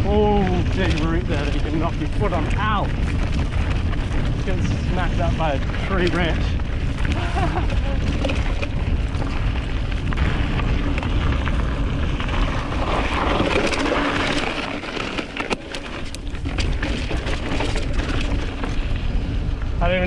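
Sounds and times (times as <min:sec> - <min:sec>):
bike rattling over ground: 0:00.0 - 0:20.0
wind rumble on microphone: 0:00.0 - 0:20.0.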